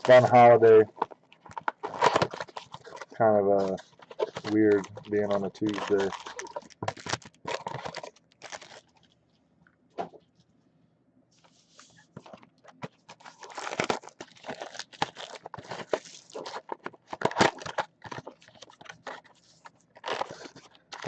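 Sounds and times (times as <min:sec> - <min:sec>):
card wrappers tearing and crinkling: 0:00.0 - 0:09.1, 0:12.2 - 0:21.0.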